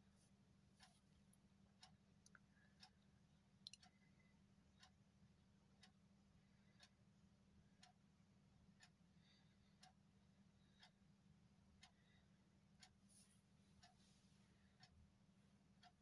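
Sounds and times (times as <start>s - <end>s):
low steady hum: 0.0s - 16.0s
clock ticking: 0.8s - 13.0s, 13.8s - 14.1s, 14.8s - 16.0s.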